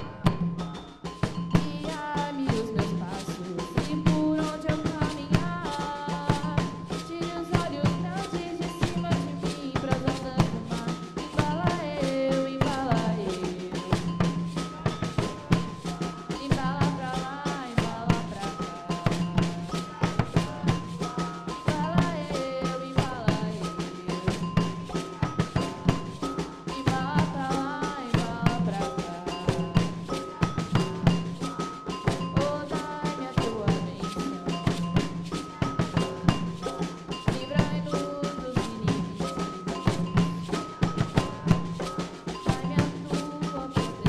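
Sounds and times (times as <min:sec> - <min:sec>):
melody over drums: 0:00.0 - 0:44.0
percussion ensemble drumming: 0:00.0 - 0:44.0.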